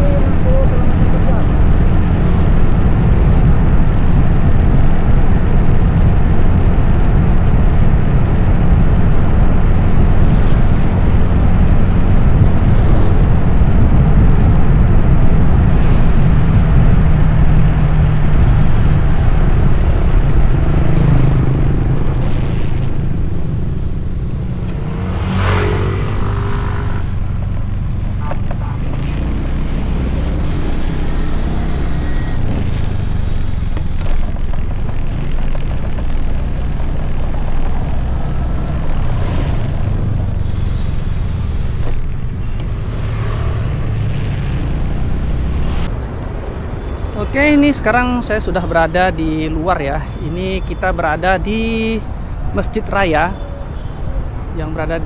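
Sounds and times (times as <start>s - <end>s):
wind buffeting microphone: 0.0s - 50.3s
traffic noise: 0.0s - 55.0s.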